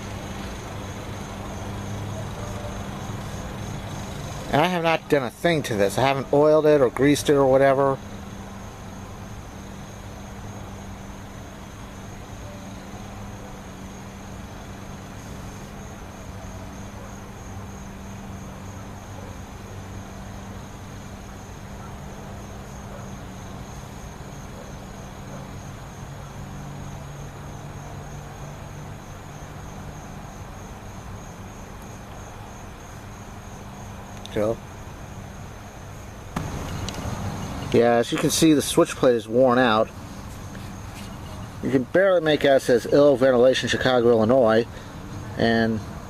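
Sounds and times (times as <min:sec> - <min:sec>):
fan coasting down humming: 0:00.0 - 0:46.0.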